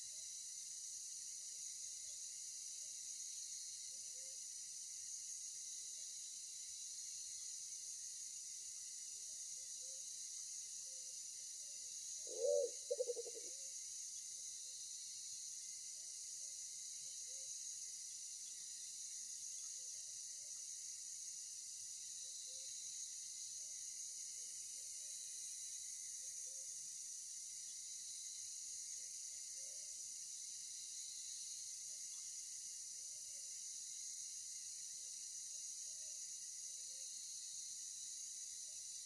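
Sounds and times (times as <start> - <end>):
forest insects droning: 0.0 - 39.0.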